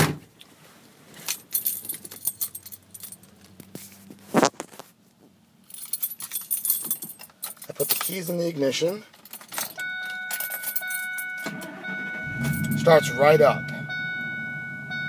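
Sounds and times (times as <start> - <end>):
car keys jangling: 1.2 - 3.9, 5.6 - 15.0.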